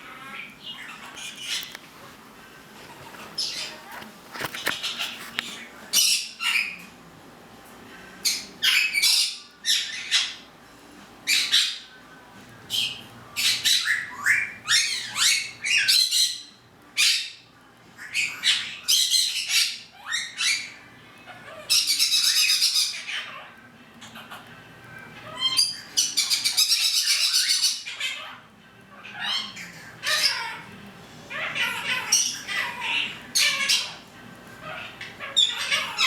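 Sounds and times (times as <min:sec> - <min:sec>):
parrot squawking: 0:00.0 - 0:01.8, 0:03.2 - 0:06.8, 0:08.2 - 0:10.5, 0:11.3 - 0:11.9, 0:12.7 - 0:24.5, 0:25.2 - 0:36.0.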